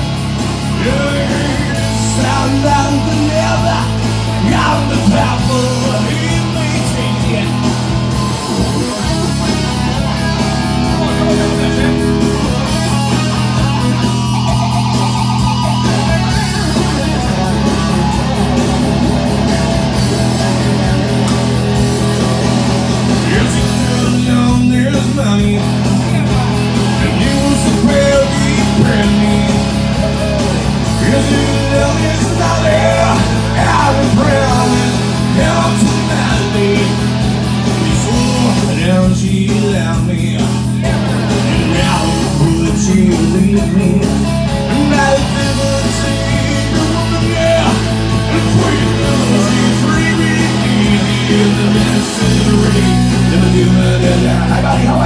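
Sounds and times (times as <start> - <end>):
man singing: 0.0 - 8.0, 10.3 - 14.3, 22.2 - 55.0
amplified electric guitar: 0.0 - 55.0
bass line: 0.0 - 55.0.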